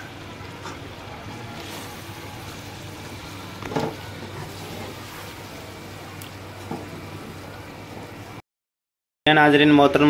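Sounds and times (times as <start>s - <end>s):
food sizzling in a pan: 0.0s - 8.4s.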